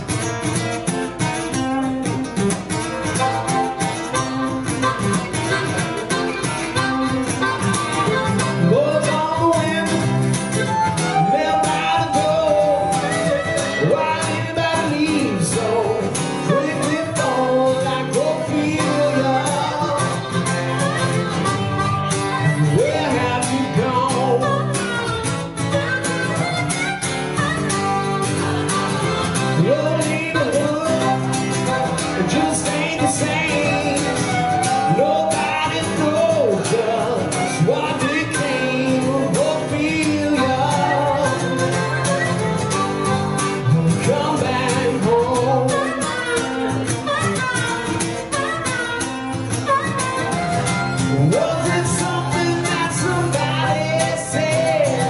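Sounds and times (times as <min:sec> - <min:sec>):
harmonica lead line: 0:00.0 - 0:55.0
strummed acoustic guitar: 0:00.0 - 0:55.0.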